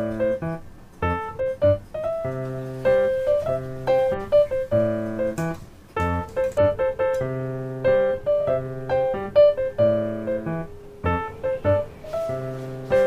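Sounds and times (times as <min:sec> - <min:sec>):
piano playing light melody: 0:00.0 - 0:13.0.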